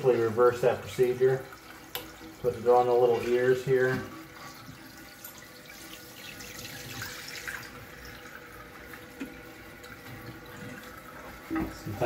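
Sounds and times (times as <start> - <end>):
water running into toilet tank: 0.0 - 12.0.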